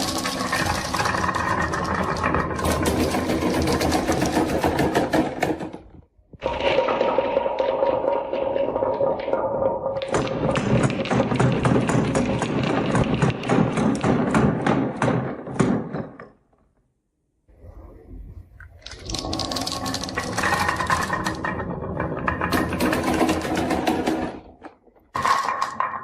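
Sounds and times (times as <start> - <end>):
marbles clattering on wooden run: 0.0 - 5.8, 6.4 - 14.4, 18.8 - 26.0.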